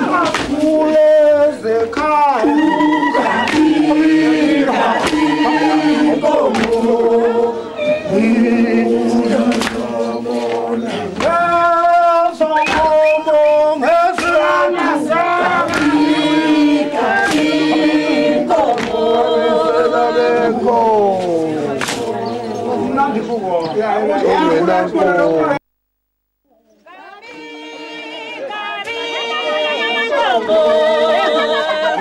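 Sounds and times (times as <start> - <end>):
group of people singing: 0.0 - 24.9, 26.9 - 32.0.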